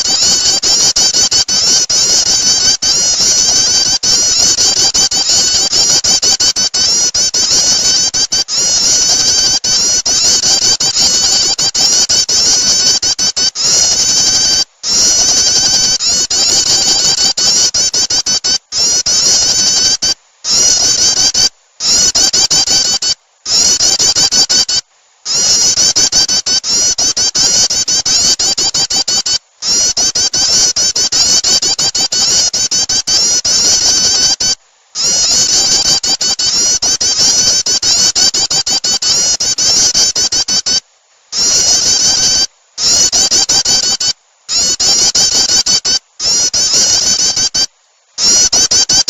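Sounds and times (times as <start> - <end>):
rapid high bird chirping: 0.0 - 40.8, 41.4 - 49.0.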